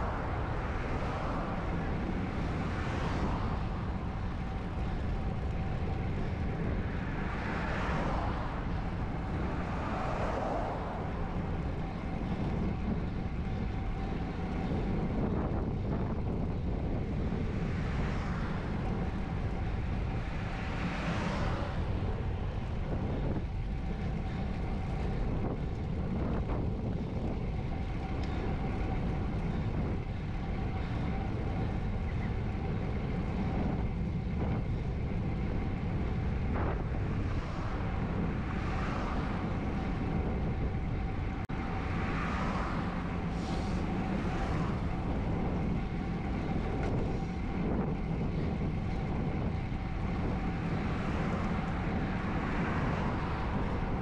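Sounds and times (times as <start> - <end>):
bike tyre noise on road: 0.0 - 54.0
vehicles passing: 0.0 - 54.0
wind rushing over microphone: 0.0 - 54.0.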